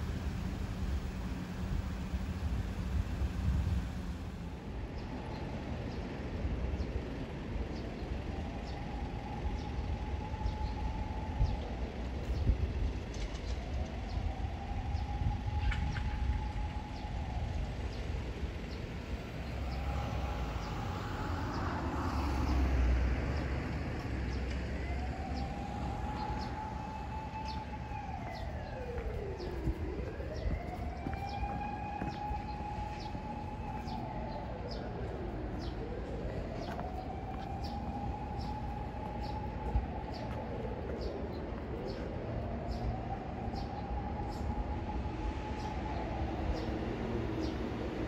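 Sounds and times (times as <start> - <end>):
emergency siren wailing: 0.0 - 48.0.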